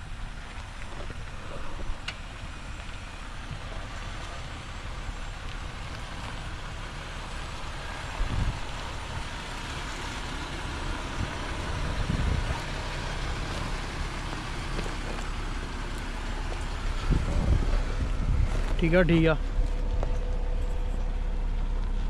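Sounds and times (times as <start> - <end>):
car engine running low: 0.0 - 22.0
tyres on dirt and stones: 0.0 - 22.0.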